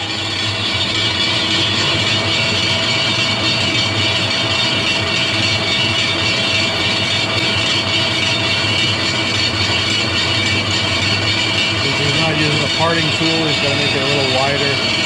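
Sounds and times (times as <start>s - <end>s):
metal lathe cutting steel: 0.0s - 15.0s.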